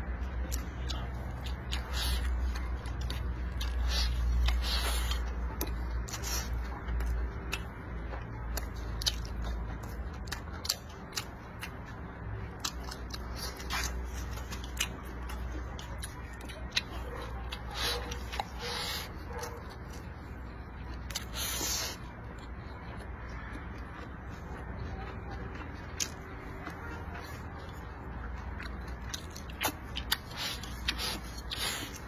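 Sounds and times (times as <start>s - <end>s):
man chewing and smacking lips: 0.0s - 32.0s.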